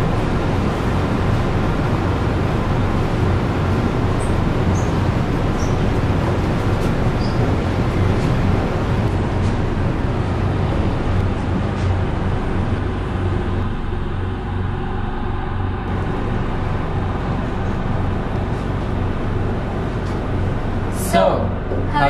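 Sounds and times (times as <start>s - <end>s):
continuous rushing noise: 0.0s - 22.0s
steady low hum: 0.0s - 22.0s.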